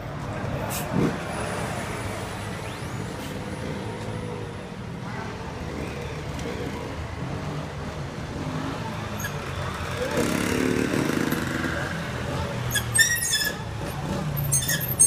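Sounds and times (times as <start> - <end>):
road traffic noise: 0.0 - 15.0
bus engine driving off: 0.2 - 15.0.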